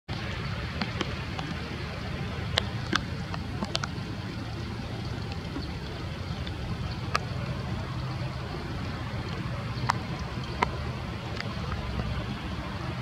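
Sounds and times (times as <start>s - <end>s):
low outdoor background rumble: 0.1s - 13.0s.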